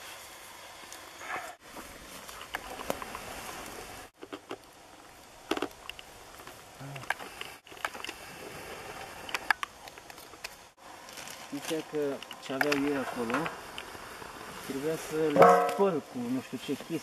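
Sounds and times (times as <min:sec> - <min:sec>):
rustling in dry leaves: 0:00.0 - 0:09.3, 0:10.2 - 0:17.0.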